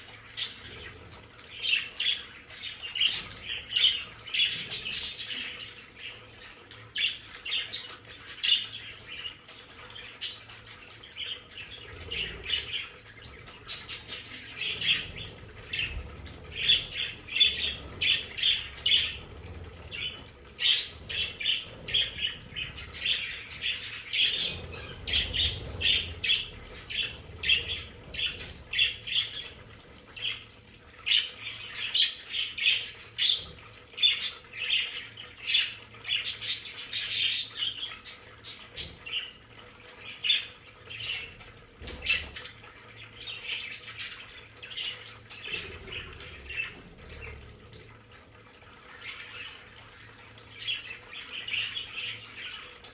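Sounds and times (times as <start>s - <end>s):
budgerigars chirping and squawking: 0.3s - 47.5s.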